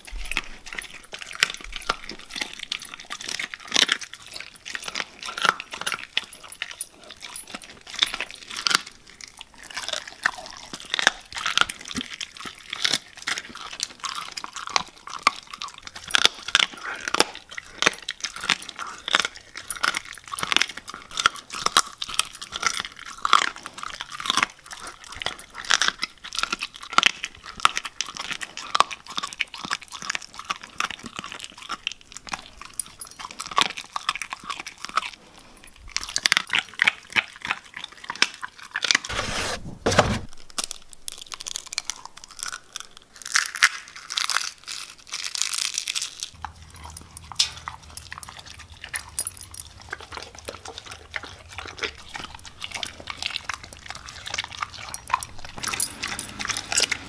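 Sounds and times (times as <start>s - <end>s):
dog crunching raw meat: 0.0s - 39.2s, 40.0s - 57.0s.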